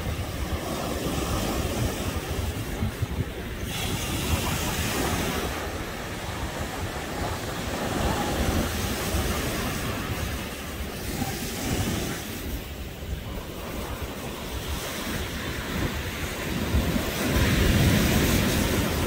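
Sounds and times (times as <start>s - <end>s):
ocean surf washing up beach: 0.0s - 19.0s
wind buffeting microphone: 0.0s - 19.0s.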